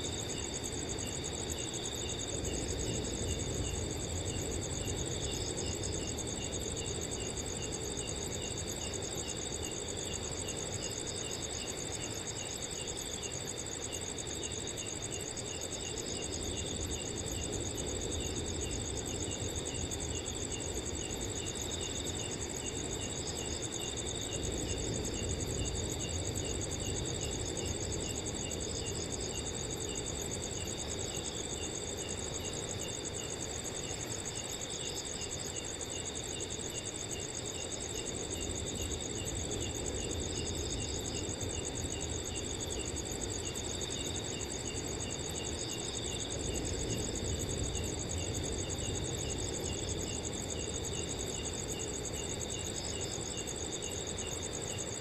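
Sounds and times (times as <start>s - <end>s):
cricket chirps: 0.0s - 55.0s
crickets trilling: 0.0s - 55.0s
gentle wind: 0.0s - 55.0s.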